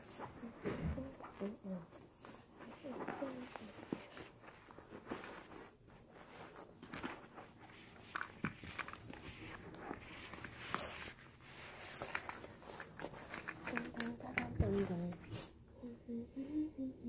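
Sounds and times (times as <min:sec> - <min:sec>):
fabric rustling: 0:00.0 - 0:15.5.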